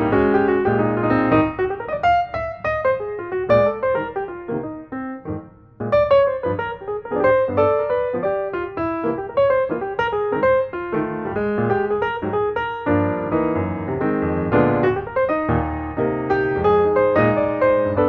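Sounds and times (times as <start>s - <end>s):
piano instrumental music: 0.0s - 18.0s.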